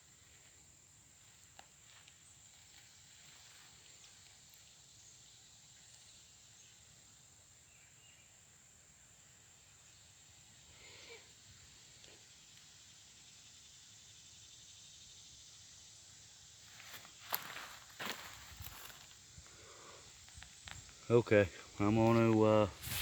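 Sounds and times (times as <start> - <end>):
high-pitched hiss: 0.0 - 23.0.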